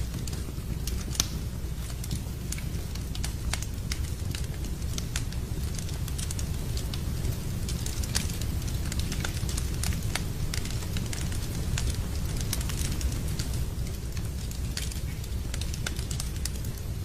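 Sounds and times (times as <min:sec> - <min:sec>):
rain rumbling: 0:00.0 - 0:17.0
wood fire crackling and popping: 0:00.0 - 0:17.0.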